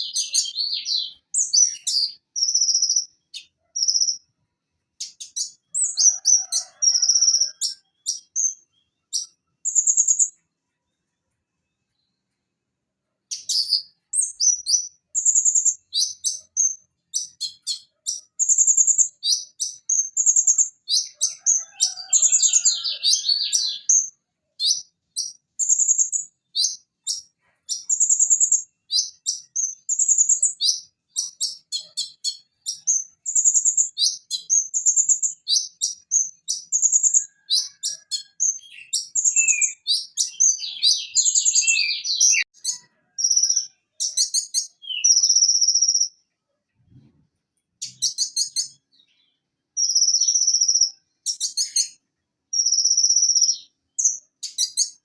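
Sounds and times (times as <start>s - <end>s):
bird singing high chirps and trills: 0.0s - 12.4s, 13.2s - 47.1s, 47.8s - 55.0s.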